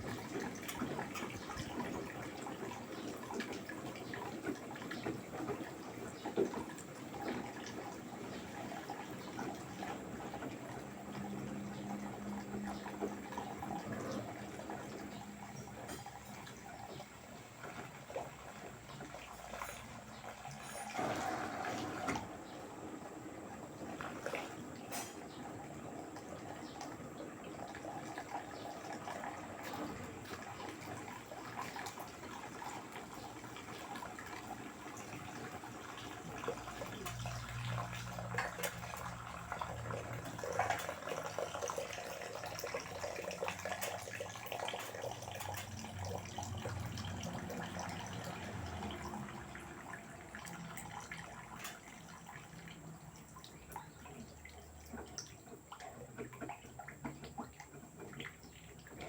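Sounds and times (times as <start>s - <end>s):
water sloshing in washing machine drum: 0.0s - 59.0s.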